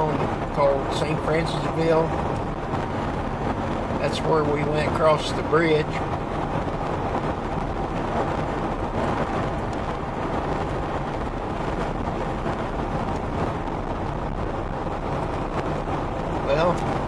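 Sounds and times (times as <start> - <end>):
car road and tyre noise: 0.0 - 17.0.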